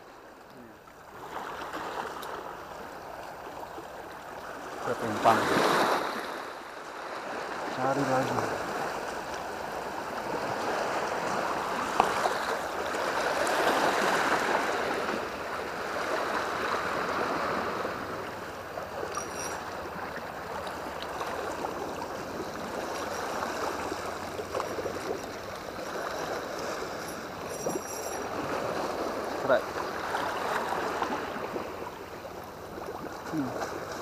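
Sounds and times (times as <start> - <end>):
sea water lapping against rocks: 0.1 - 34.0.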